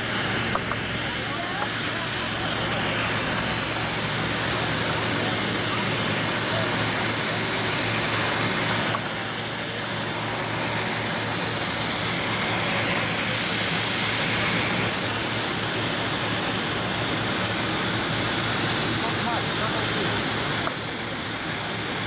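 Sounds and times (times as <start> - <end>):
jet engines with high whine: 0.0 - 22.0.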